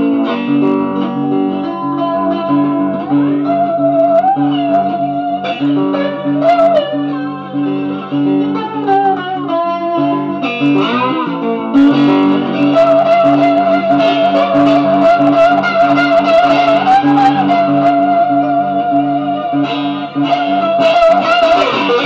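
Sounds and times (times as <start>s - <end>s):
electric guitar lead: 0.0s - 22.0s.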